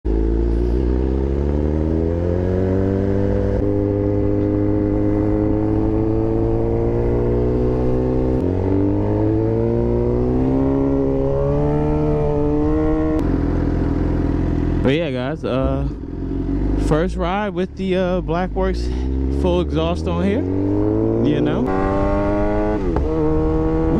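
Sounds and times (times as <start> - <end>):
motorcycle engine shifting through gears: 0.0 - 23.9.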